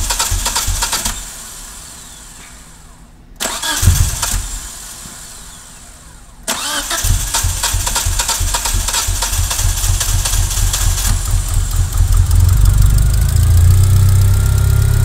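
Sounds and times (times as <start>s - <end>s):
engine catching and dying: 0.0s - 1.4s, 3.4s - 5.7s, 6.5s - 15.0s
engine cranking on starter: 0.0s - 2.2s, 2.8s - 15.0s.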